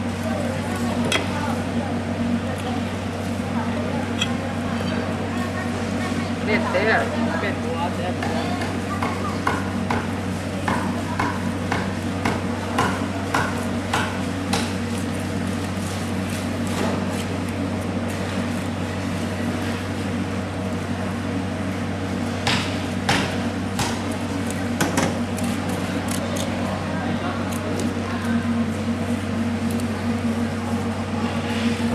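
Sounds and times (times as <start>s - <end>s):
low machine hum: 0.0s - 31.9s.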